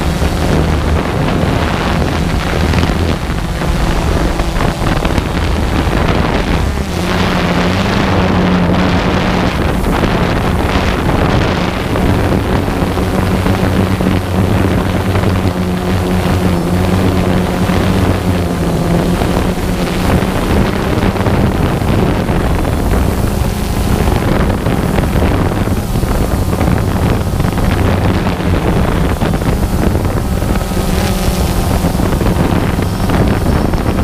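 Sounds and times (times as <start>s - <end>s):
drone propellers humming: 0.0s - 34.0s
wind on microphone: 0.0s - 34.0s.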